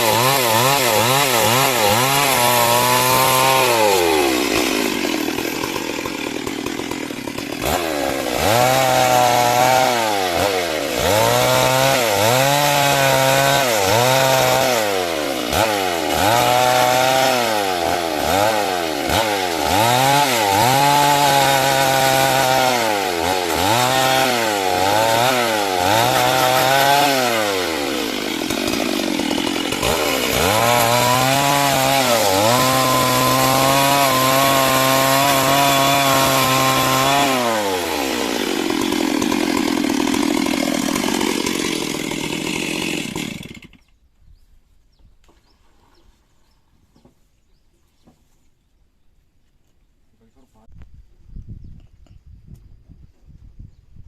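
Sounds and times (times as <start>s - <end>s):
chainsaw cutting timber: 0.0s - 44.0s.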